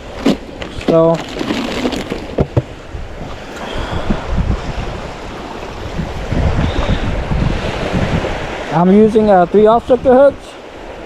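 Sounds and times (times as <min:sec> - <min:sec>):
low rumbling wind gusts: 0:00.0 - 0:11.0
wind buffeting microphone: 0:00.0 - 0:11.0.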